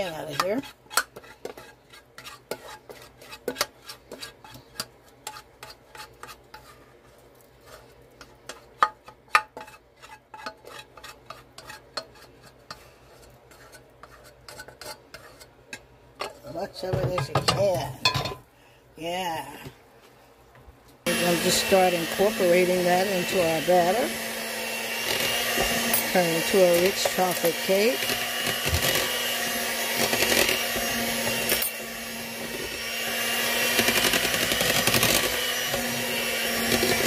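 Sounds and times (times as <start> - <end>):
plastic spatula scraping a bowl: 0.0 - 17.8, 21.1 - 37.0.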